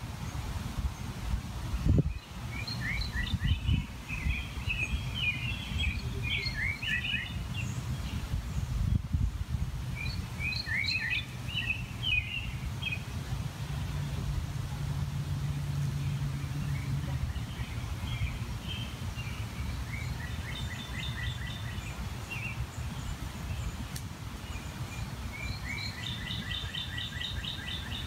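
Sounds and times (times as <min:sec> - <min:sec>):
low rumbling background noise: 0:00.0 - 0:28.0
songbird chirping: 0:00.1 - 0:28.0.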